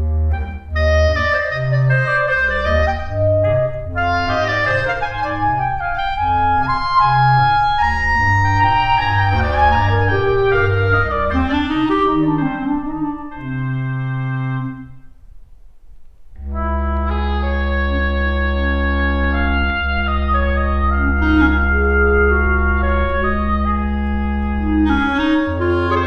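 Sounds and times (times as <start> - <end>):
instrumental background music: 0.0 - 15.0, 16.4 - 26.0.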